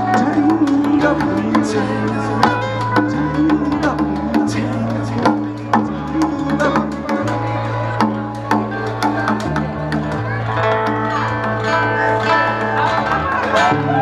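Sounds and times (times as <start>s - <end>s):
picked and strummed acoustic strings: 0.0s - 14.0s
walking bass line: 0.0s - 14.0s.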